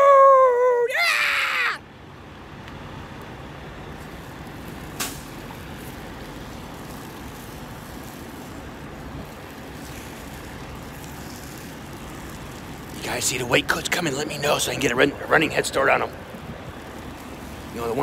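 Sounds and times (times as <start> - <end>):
diesel truck engines idling: 0.0 - 18.0.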